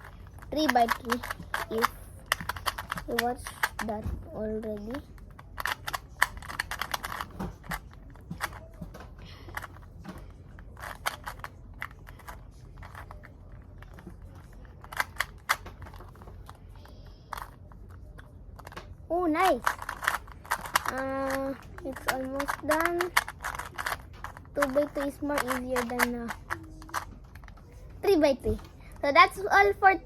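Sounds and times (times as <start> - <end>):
puzzle cube clicking and rattling: 0.0 - 29.1.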